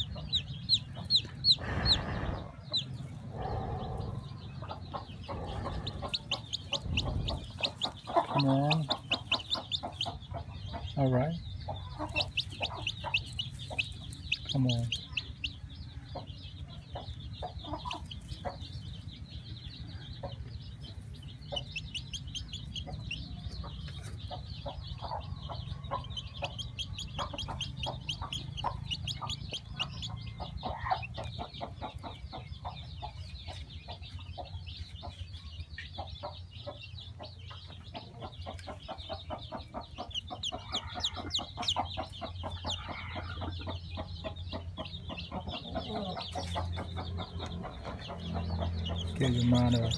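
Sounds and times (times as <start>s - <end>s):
clucking: 0.0s - 15.3s, 21.4s - 35.2s, 35.8s - 49.9s
chicks peeping: 0.0s - 49.9s.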